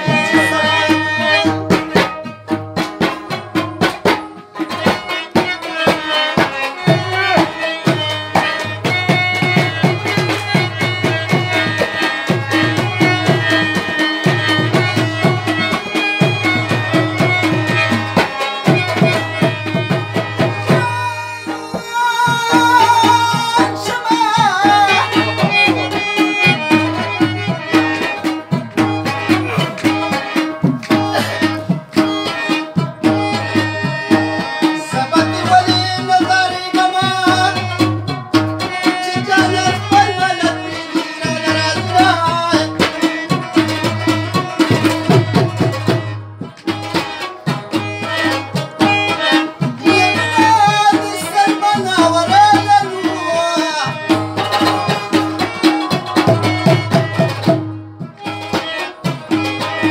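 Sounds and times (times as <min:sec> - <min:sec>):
hand drum rhythmic beat: 0:00.0 - 0:59.9
wavering folk melody: 0:00.0 - 0:59.9.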